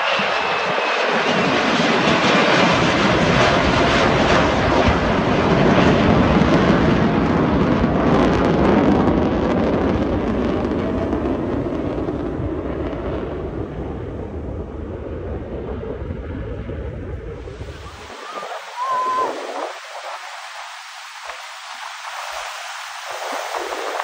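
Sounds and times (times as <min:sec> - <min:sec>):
rumbling jet noise: 0:00.0 - 0:24.0.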